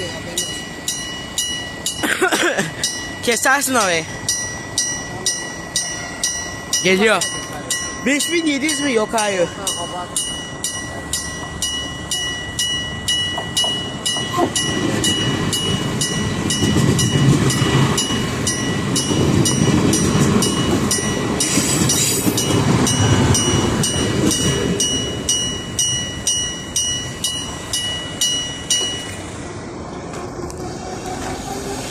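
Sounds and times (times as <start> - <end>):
ringing crossing signal: 0.0 - 29.4
train passing with wheel noise: 0.0 - 31.9.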